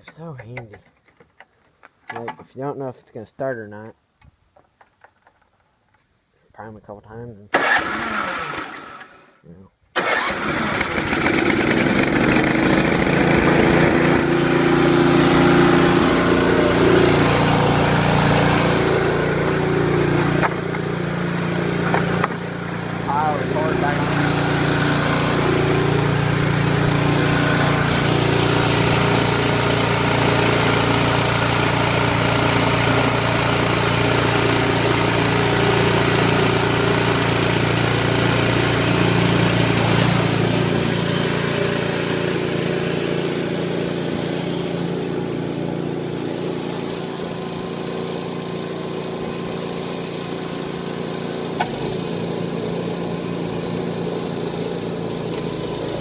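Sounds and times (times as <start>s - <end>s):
snowblower engine running: 7.6s - 9.3s, 10.0s - 56.0s.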